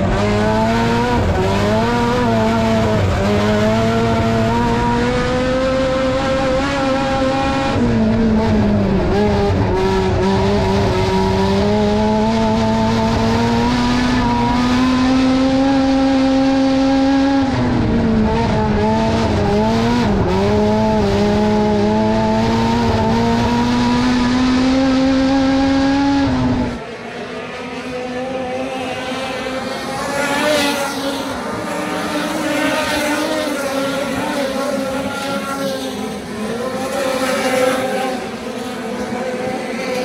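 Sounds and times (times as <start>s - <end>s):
distant race cars running laps: 0.0s - 40.0s
race car engine at high revs: 0.0s - 40.0s.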